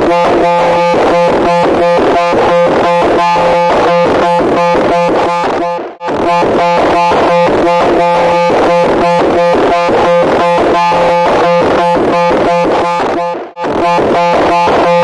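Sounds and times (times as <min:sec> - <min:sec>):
harsh pulsing buzzing drone: 0:00.0 - 0:15.0.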